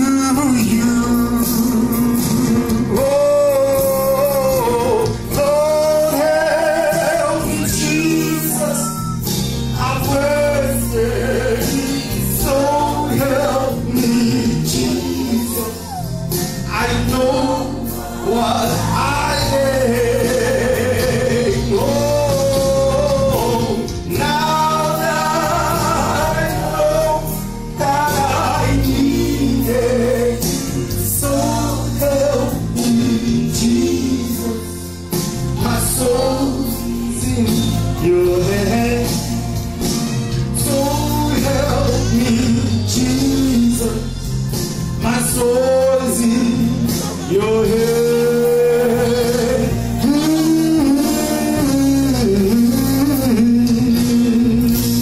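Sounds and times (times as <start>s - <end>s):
instrumental accompaniment: 0.0s - 55.0s
man singing into a microphone: 0.0s - 55.0s.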